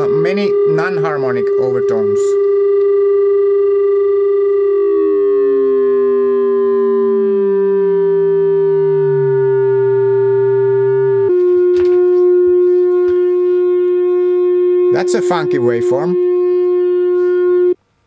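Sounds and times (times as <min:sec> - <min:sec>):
synthesizer tone: 0:00.0 - 0:17.8.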